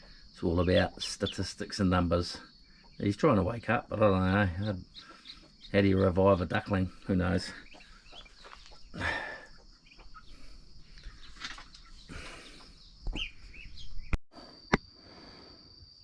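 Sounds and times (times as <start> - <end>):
birds chirping: 0.0 - 14.7
high insect drone: 0.0 - 16.0.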